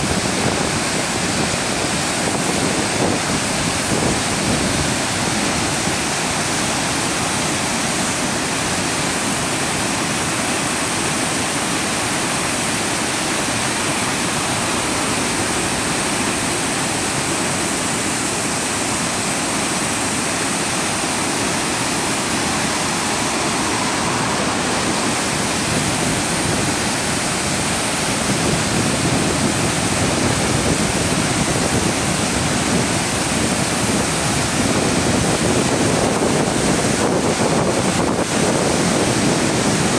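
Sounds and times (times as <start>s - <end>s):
rapids rushing over rocks: 0.0s - 39.9s.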